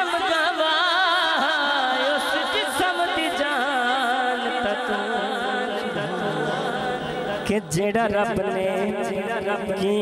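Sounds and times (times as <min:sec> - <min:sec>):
man singing through a microphone: 0:00.0 - 0:10.0.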